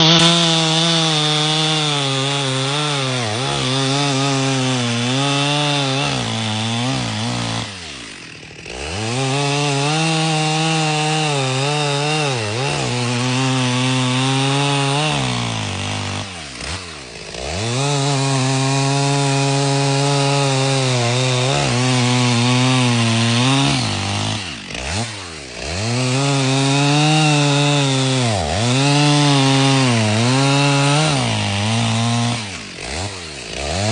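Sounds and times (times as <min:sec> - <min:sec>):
chainsaw cutting logs: 0:00.0 - 0:33.9.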